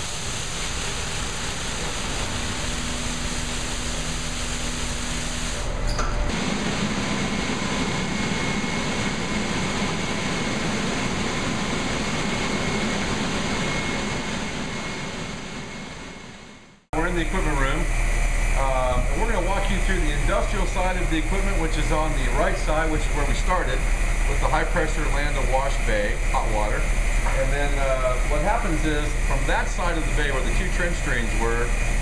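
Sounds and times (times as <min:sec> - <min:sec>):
car wash machine running: 0:00.0 - 0:32.0.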